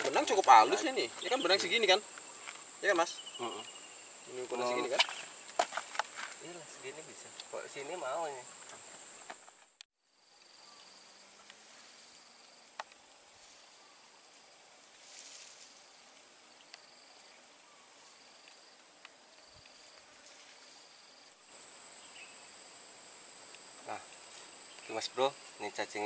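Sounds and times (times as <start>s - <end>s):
insects buzzing: 0.0s - 26.0s
lower insect call trilling: 0.0s - 26.0s
rustle: 0.0s - 26.0s.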